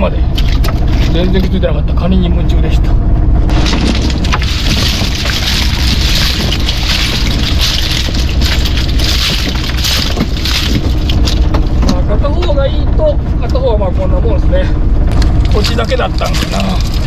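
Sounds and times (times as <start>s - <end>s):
boat engine rumbling: 0.0s - 17.0s
steady rushing noise: 1.2s - 17.0s.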